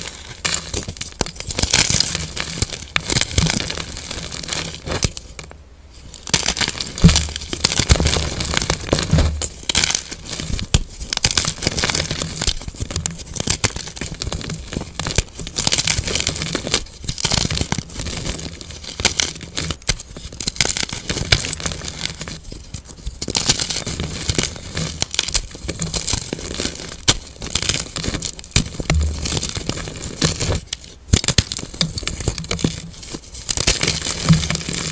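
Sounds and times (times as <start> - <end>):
chalk snapping and crumbling: 0.0 - 34.9.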